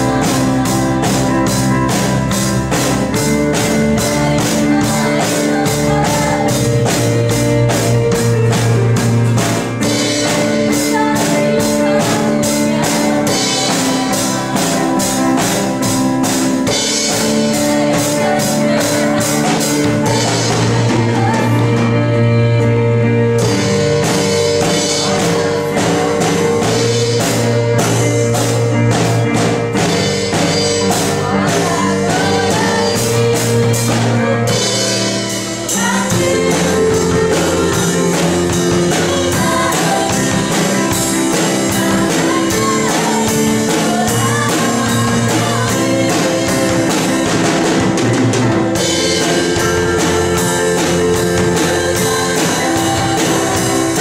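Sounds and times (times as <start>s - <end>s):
band with drum kit: 0.0s - 54.0s
girls singing worship song: 0.0s - 54.0s.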